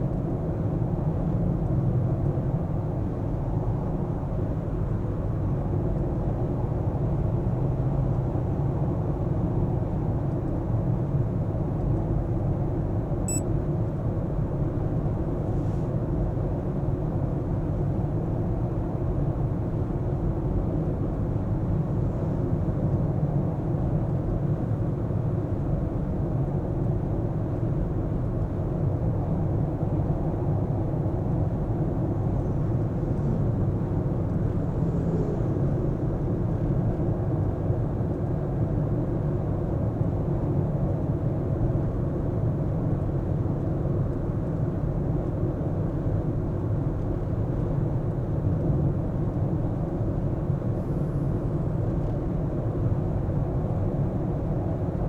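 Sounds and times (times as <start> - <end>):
car engine and tyre rumble: 0.0 - 13.4, 14.4 - 55.0.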